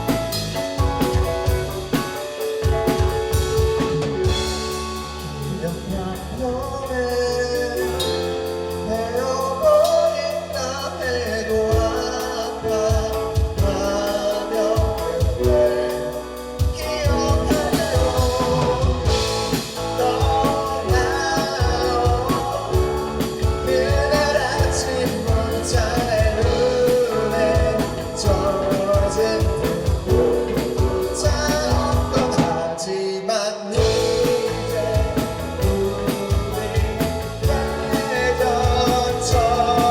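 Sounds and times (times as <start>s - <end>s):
band playing a song: 0.0s - 33.0s, 33.7s - 39.9s
lead singer singing: 0.0s - 39.9s.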